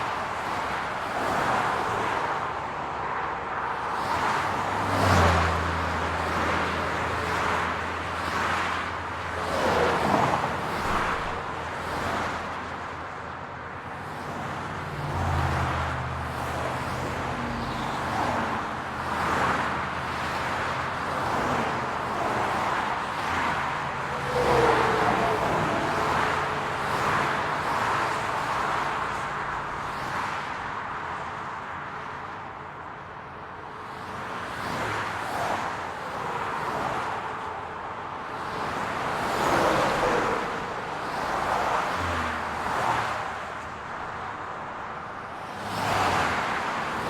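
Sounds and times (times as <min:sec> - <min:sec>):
cars passing by: 0:00.0 - 0:47.0
road traffic noise: 0:00.0 - 0:47.0.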